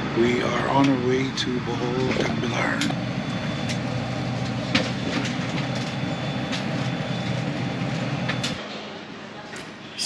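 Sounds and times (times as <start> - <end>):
airliner engines droning in cabin: 0.0 - 10.0.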